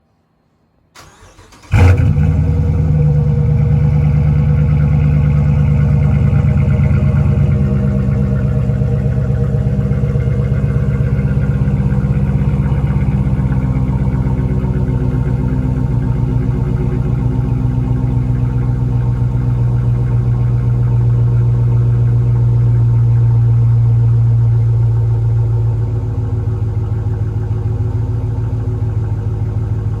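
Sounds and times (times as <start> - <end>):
car engine idling: 1.0 - 30.0.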